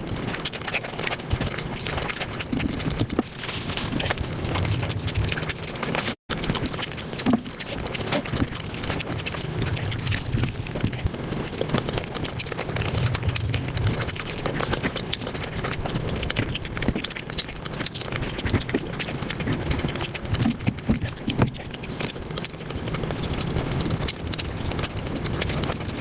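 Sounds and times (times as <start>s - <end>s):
sped-up chewing and crunching: 0.0s - 26.0s.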